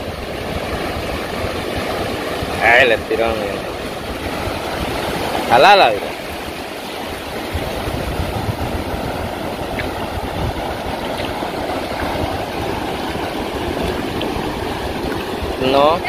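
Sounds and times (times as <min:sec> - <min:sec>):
surf washing over shallows: 0:00.0 - 0:16.0
wind rumbling on microphone: 0:00.0 - 0:16.0.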